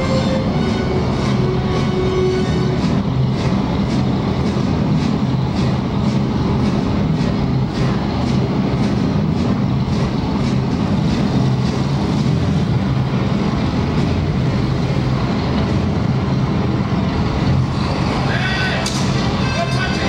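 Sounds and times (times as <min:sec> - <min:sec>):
propeller engines droning: 0:00.0 - 0:20.0.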